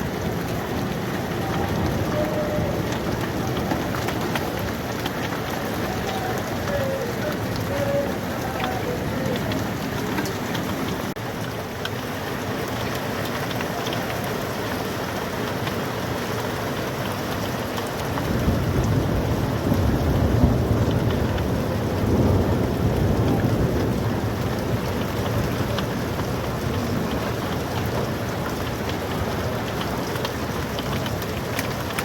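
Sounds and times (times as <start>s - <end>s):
hailstones ticking on surfaces: 0.0s - 32.0s
heavy rain: 0.0s - 32.0s.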